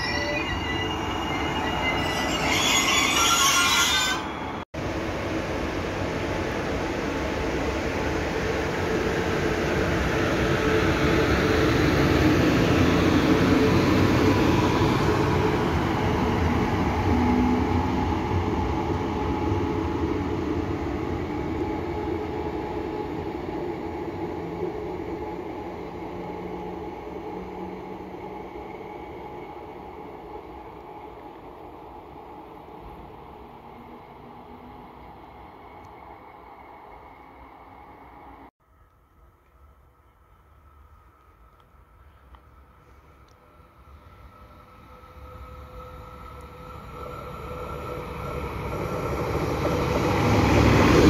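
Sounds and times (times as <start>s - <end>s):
train running noise and hum: 0.0s - 38.5s, 39.5s - 51.0s.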